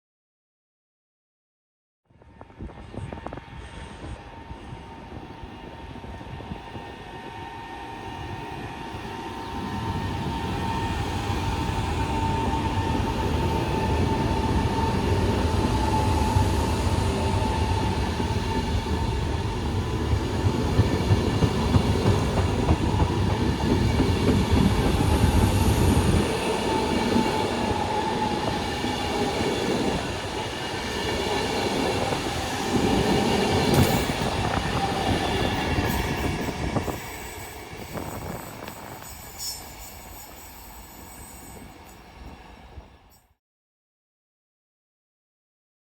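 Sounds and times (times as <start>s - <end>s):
train wheels rumbling on rails: 2.6s - 43.0s.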